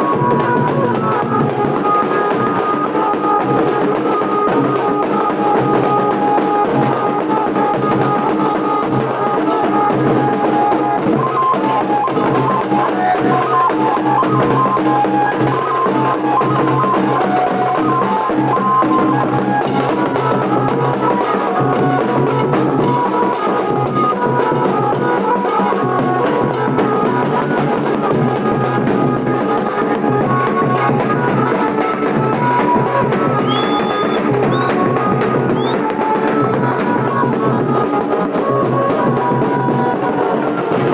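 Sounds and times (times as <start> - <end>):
dhol drumming: 0.0 - 40.9.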